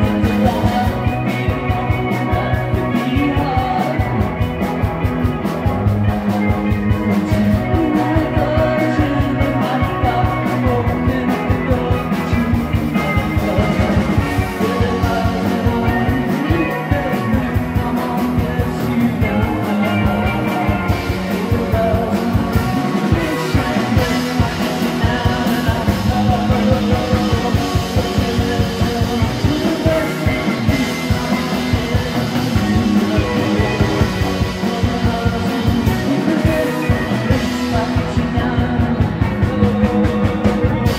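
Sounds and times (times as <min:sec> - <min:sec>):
distorted electric guitar: 0:00.0 - 0:40.9
drum kit steady beat: 0:00.0 - 0:40.9.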